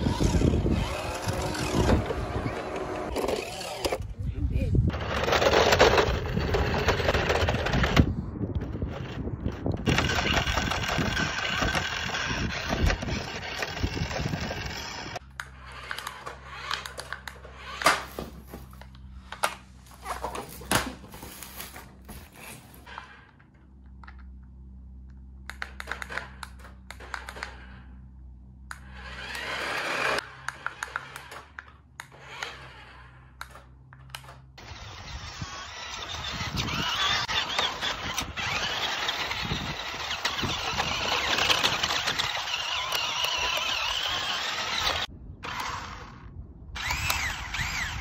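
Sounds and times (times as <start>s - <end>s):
toy truck electric motor whirring: 0.0s - 4.1s, 4.9s - 19.4s, 25.5s - 28.1s, 28.7s - 48.0s.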